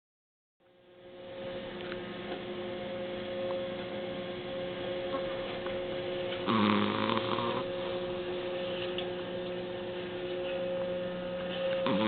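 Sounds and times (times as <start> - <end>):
steady hum: 0.6 - 12.0.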